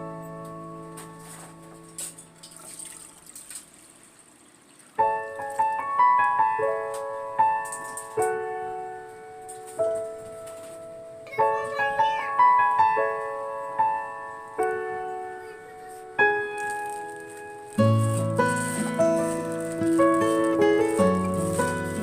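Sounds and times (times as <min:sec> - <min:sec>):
piano keyboard music: 0:00.0 - 0:03.4, 0:04.9 - 0:22.0.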